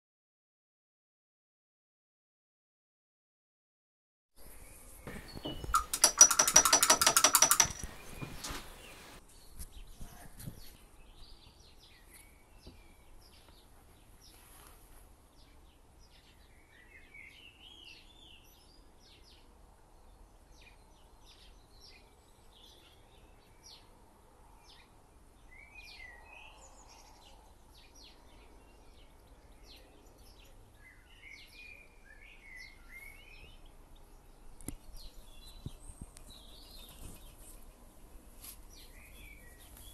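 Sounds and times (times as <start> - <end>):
faint birdsong: 4.4 - 39.9.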